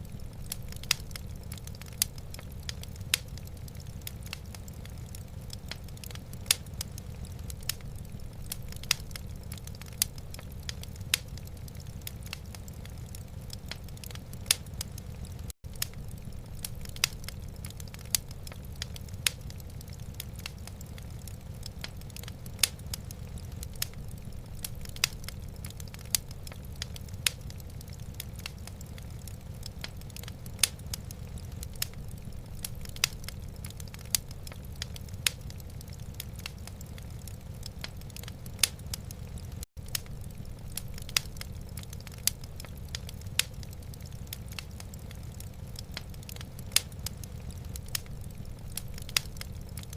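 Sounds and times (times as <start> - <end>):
low fire rumble: 0.0 - 49.9
wood fire crackling: 0.0 - 49.9.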